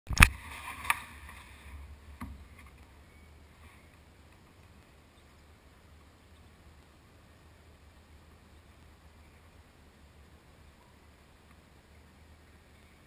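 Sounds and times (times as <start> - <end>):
faint low rumble: 0.2 - 13.0.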